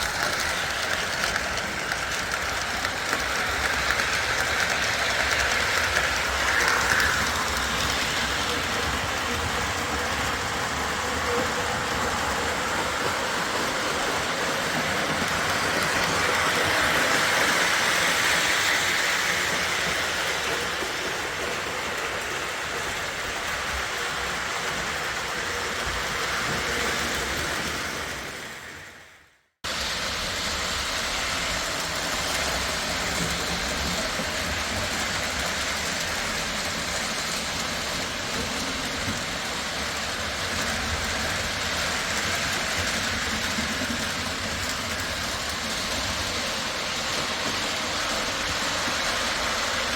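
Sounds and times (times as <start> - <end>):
model train wheels clattering: 0.0 - 28.4, 30.0 - 49.9.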